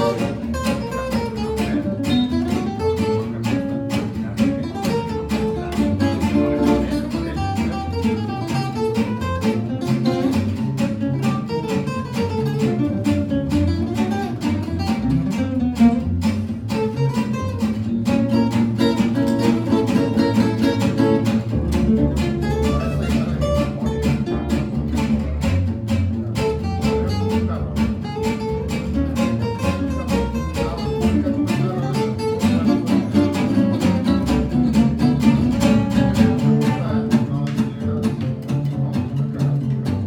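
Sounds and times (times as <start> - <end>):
acoustic guitars playing: 0.0 - 40.0
plucked double bass: 0.0 - 40.0.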